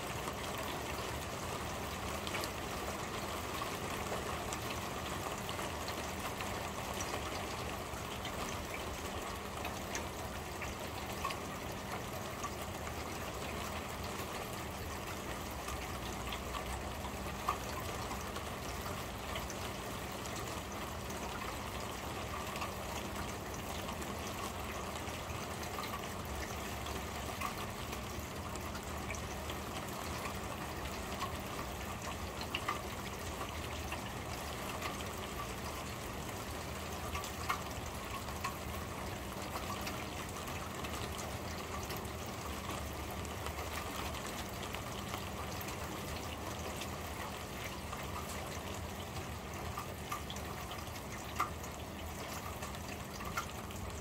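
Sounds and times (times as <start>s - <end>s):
drips and ticks: 0.0s - 54.0s
rain on corrugated roof: 0.0s - 54.0s.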